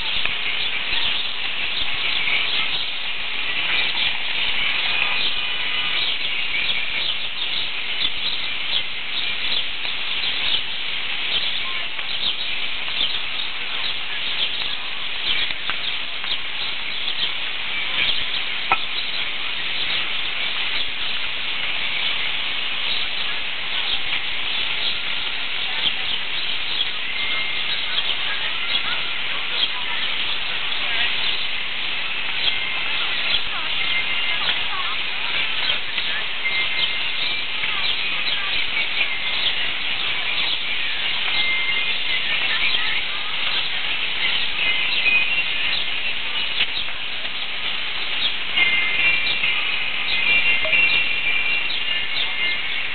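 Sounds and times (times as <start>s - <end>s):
high hiss: 0.0s - 52.9s
small birds chirping: 0.0s - 52.9s.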